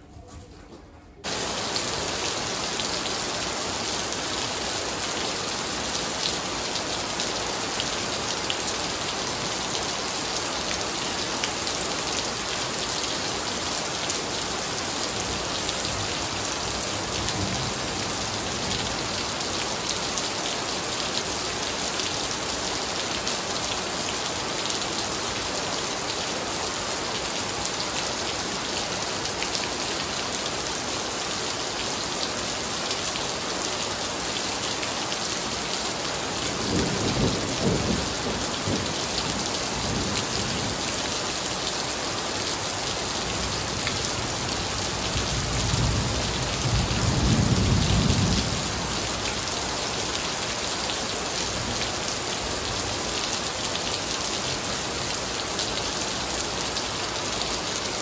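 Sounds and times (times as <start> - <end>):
heavy rain on tiled patio: 1.2 - 58.0.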